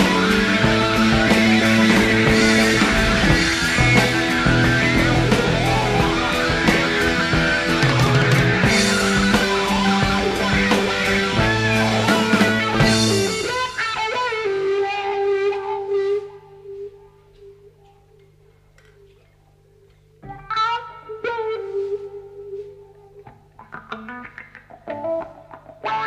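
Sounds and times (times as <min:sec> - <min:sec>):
blues-rock band playing: 0:00.0 - 0:16.8, 0:20.2 - 0:26.0
solo electric guitar: 0:00.0 - 0:19.4, 0:20.1 - 0:26.0.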